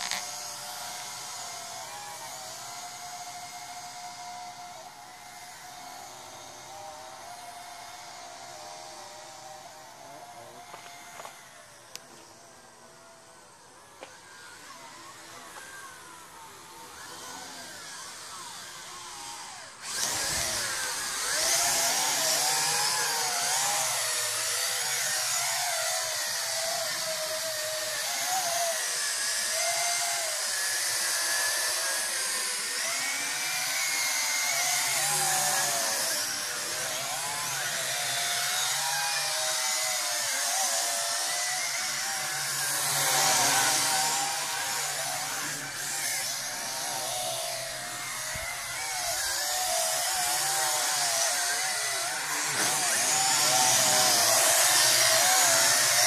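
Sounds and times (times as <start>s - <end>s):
quadcopter propellers buzzing: 0.0s - 56.0s.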